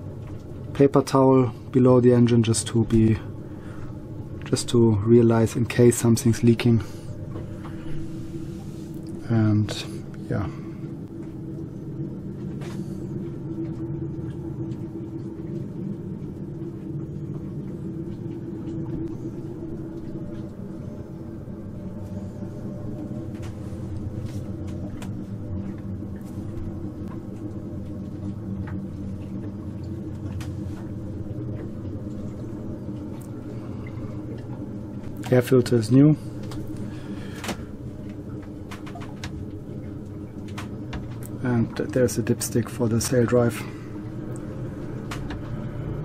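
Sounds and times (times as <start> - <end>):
boat diesel engine running: 0.0 - 46.0.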